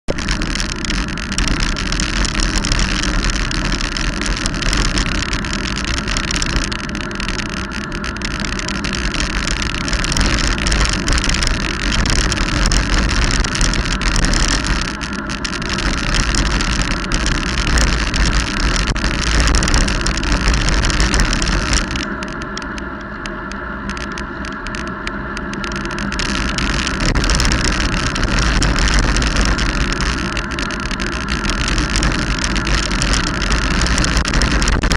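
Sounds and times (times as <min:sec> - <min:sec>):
bicycle tyre noise on road: 0:00.0 - 0:34.9
wind rushing over microphone: 0:00.1 - 0:34.9.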